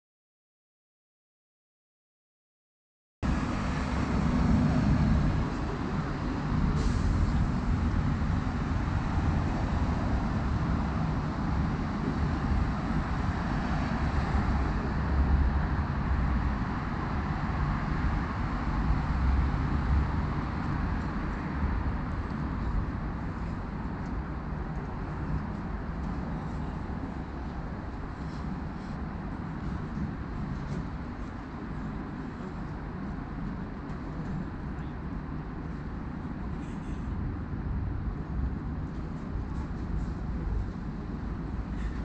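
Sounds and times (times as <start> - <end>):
road traffic rumble: 3.2 - 42.0.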